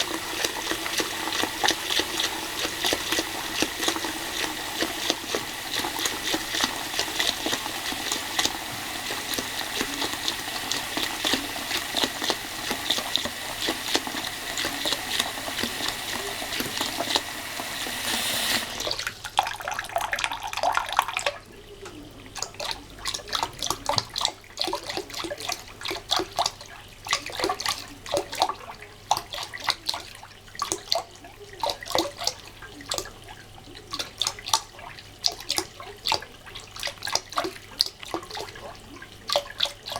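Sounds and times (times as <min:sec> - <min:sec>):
small splashes and drips: 0:00.0 - 0:39.9
tap water splashing into basin: 0:00.0 - 0:39.9.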